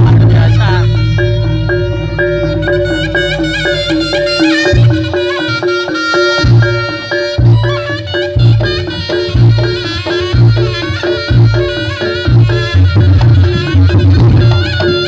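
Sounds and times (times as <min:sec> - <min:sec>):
heavy bass beat: 0:00.0 - 0:15.0
reedy horn melody: 0:00.0 - 0:15.0
ringing gongs: 0:00.0 - 0:15.0.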